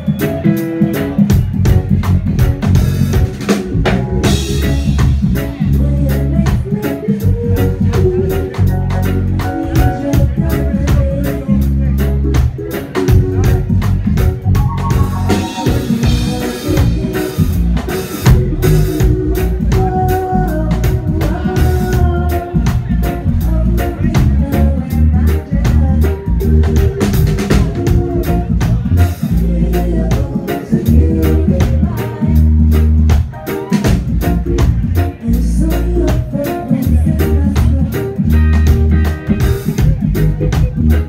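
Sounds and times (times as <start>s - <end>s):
deep bass: 0.0s - 41.0s
drum kit: 0.0s - 41.0s
live reggae band: 0.0s - 41.0s.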